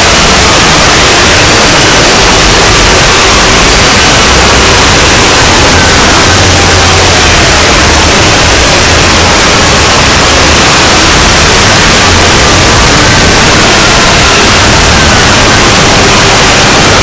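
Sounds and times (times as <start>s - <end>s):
distorted hiss: 0.0s - 17.0s.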